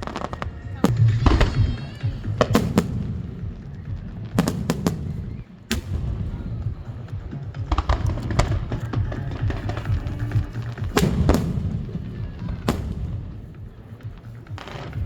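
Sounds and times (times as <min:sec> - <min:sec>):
continuous low rumble: 0:00.0 - 0:15.0
crackling firework bursts: 0:00.0 - 0:15.0
fireworks bangs: 0:00.0 - 0:15.0.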